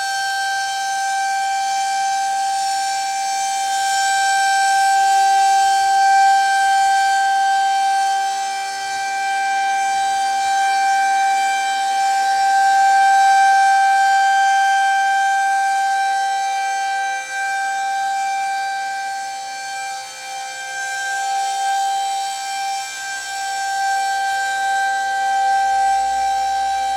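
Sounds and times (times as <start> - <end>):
rotating warning siren steady tone: 2.5 - 26.9.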